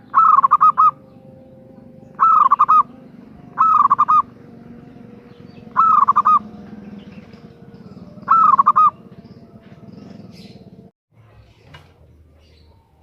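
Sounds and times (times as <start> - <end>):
dove cooing calls: 0.0 - 10.9.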